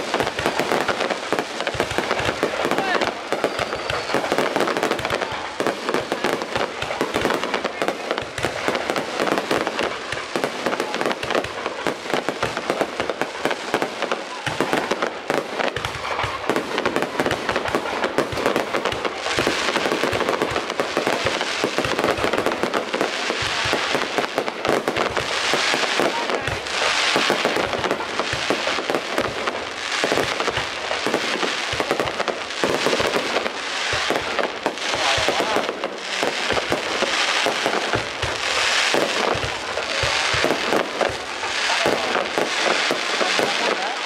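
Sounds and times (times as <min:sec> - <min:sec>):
fireworks cracks and bangs: 0:00.0 - 0:44.0
fireworks hissing crackle: 0:00.0 - 0:44.0.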